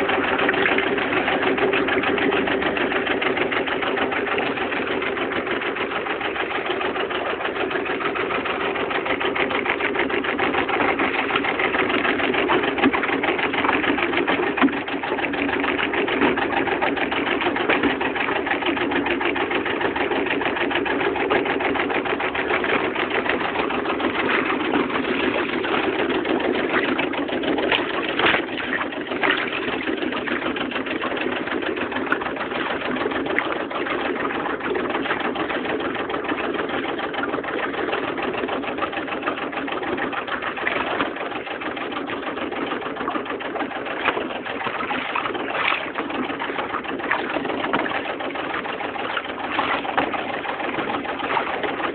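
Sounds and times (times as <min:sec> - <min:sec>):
boat engine idling: 0:00.0 - 0:51.9.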